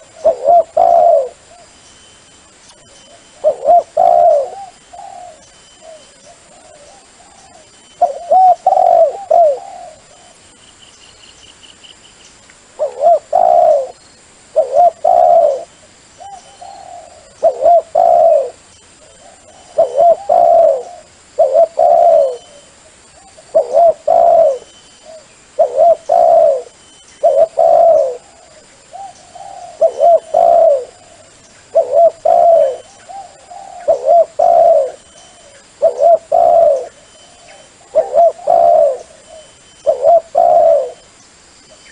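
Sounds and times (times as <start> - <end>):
dove cooing: 0.0 - 1.8, 3.1 - 10.4, 12.8 - 41.1.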